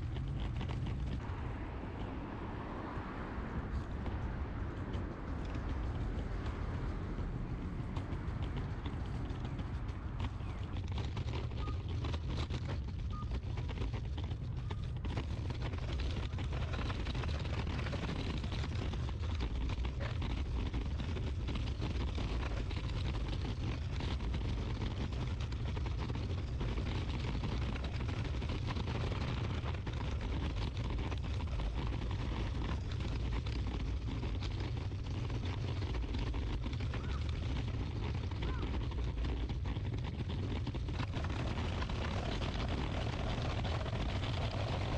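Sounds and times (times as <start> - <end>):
heavy low rumble: 0.0 - 44.9.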